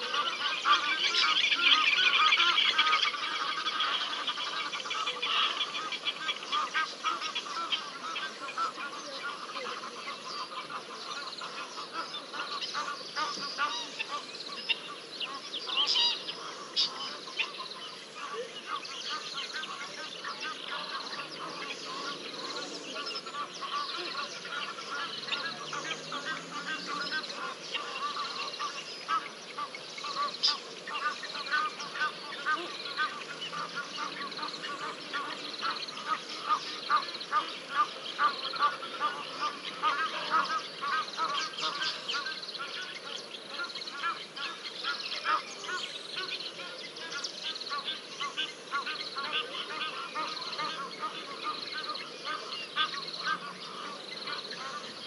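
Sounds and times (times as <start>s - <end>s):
geese honking: 0.0s - 55.0s.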